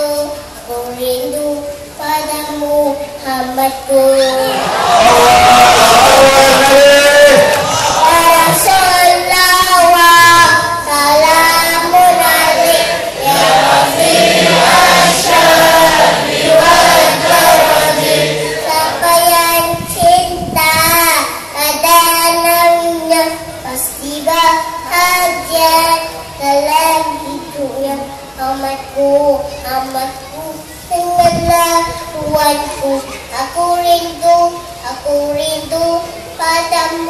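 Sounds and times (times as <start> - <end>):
boy singing over loudspeaker: 0.0 - 37.0.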